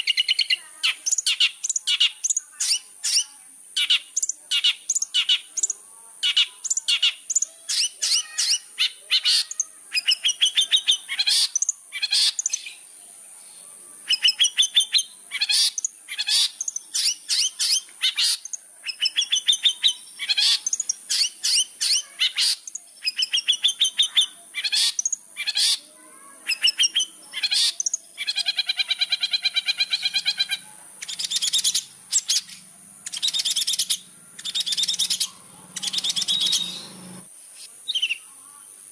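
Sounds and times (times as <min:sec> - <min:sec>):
shrike singing: 0:00.0 - 0:25.8, 0:26.4 - 0:38.7.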